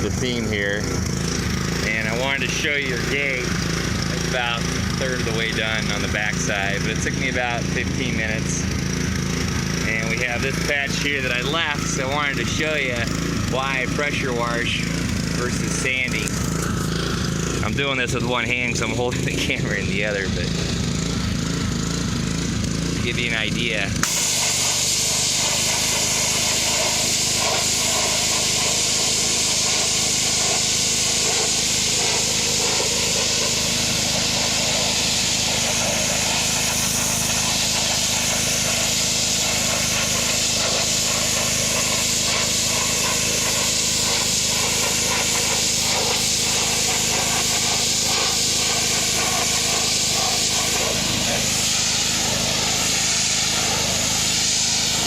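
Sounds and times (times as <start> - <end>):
pressure washer spray hissing: 0.0 - 17.6, 18.6 - 55.0
machine humming: 0.0 - 55.0.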